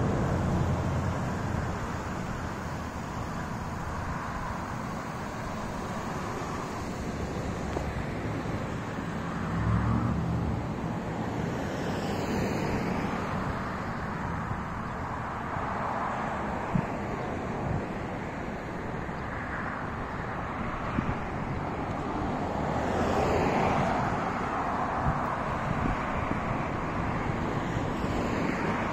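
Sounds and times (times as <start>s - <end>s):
car passing: 0.0s - 28.9s
street traffic: 0.0s - 28.9s
wind rumbling on microphone: 0.0s - 28.9s.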